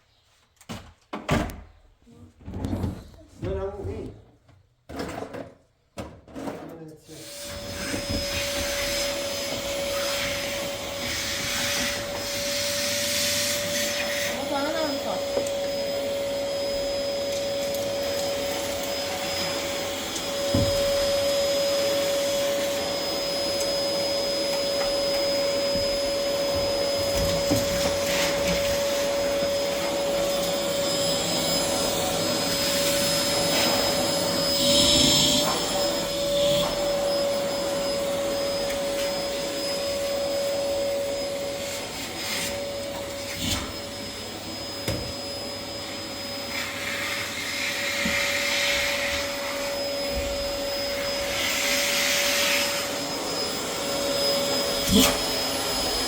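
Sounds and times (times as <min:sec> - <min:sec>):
vacuum cleaner running: 0:06.4 - 0:56.0.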